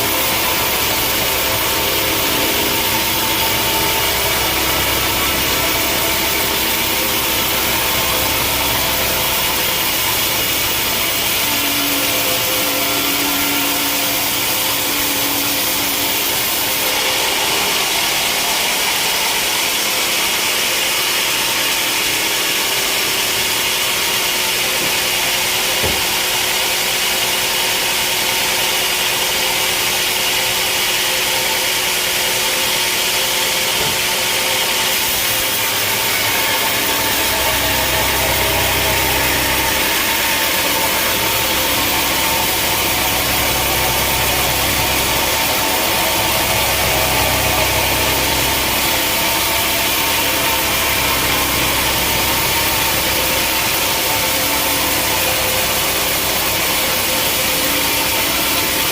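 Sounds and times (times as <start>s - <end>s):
saw cutting through log: 0.0s - 58.9s
sawmill machine hum: 0.0s - 58.9s.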